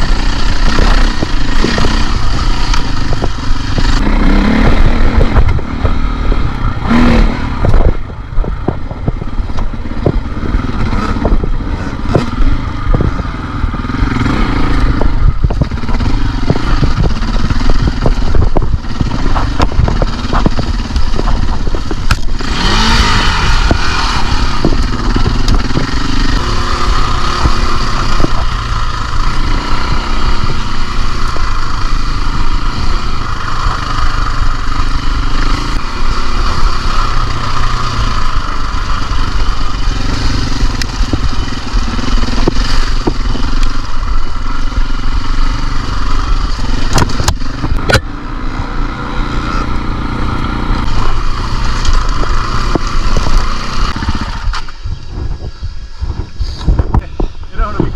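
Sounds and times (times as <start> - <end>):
knocks and clatter of bike: 0.0 - 4.0, 7.6 - 13.3, 13.9 - 48.1, 50.4 - 57.9
motorcycle engine revving: 0.0 - 57.9
rush of noise: 0.0 - 57.9.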